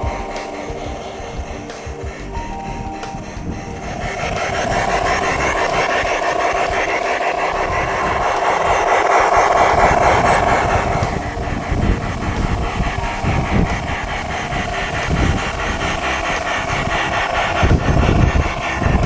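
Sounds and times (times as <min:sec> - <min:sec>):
model steam locomotive running: 0:00.0 - 0:19.0.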